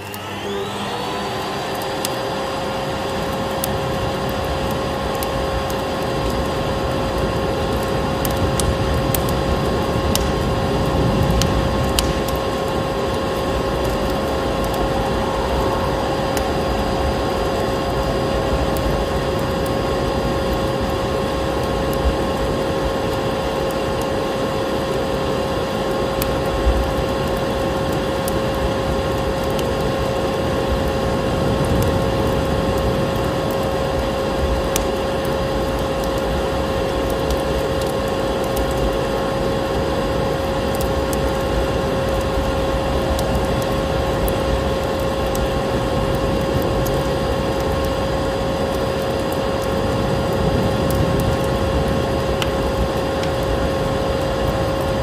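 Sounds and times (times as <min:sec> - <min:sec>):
vacuum cleaner motor whine: 0:00.0 - 0:55.0
wood fire crackles: 0:00.0 - 0:55.0.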